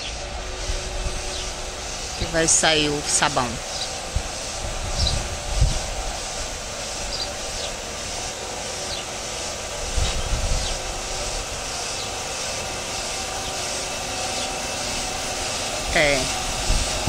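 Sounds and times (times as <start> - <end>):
car wash brushes hissing: 0.0 - 17.0.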